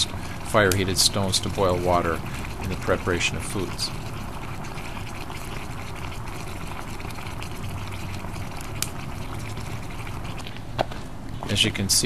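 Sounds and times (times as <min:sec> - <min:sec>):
water bubbling around hot stones: 0:00.0 - 0:10.7.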